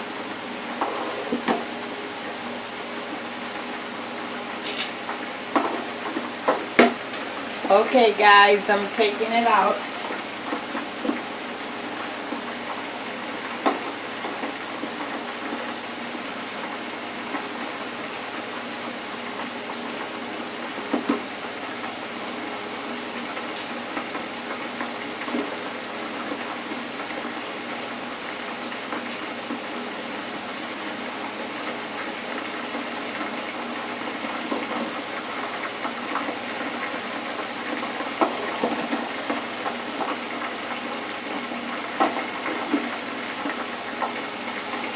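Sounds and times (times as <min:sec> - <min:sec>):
oil sizzling in deep fryer: 0:00.0 - 0:44.9.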